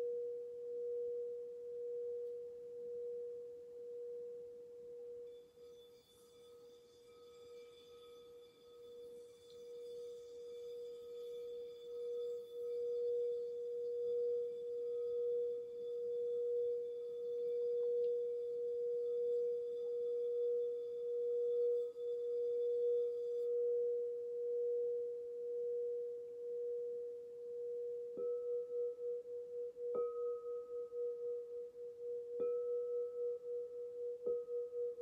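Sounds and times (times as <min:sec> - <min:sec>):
crystal singing bowl tone: 0:00.0 - 0:35.0.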